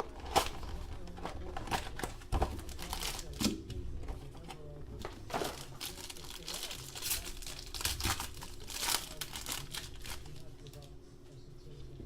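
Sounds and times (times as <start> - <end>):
card packs rustling: 0.0 - 10.9.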